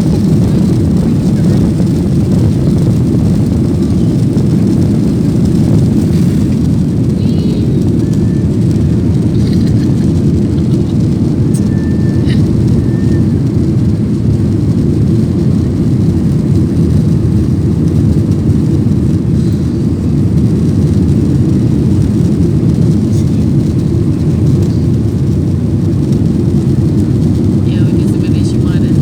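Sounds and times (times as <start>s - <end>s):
airliner engines rumbling in cabin: 0.0s - 29.0s.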